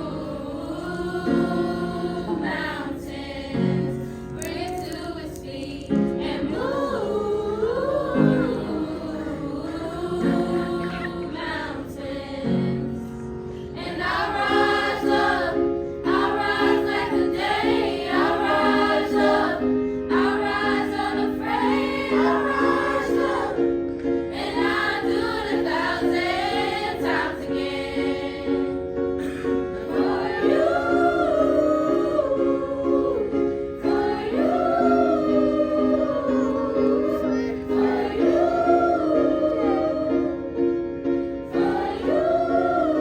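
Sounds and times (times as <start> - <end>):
choir singing: 0.0 - 40.7, 41.5 - 43.0
sustained accompaniment notes: 6.4 - 43.0.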